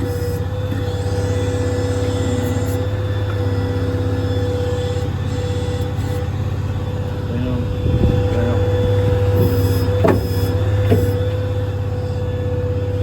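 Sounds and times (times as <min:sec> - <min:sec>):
diesel engine rumble: 0:00.0 - 0:13.0
hydraulic whine: 0:00.0 - 0:13.0.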